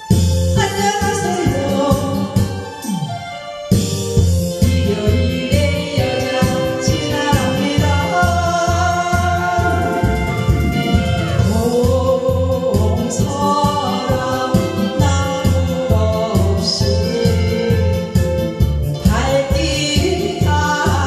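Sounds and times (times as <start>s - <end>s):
woman singing into a microphone: 0.0s - 3.2s, 4.4s - 21.0s
backing track with bass beat: 0.0s - 21.0s.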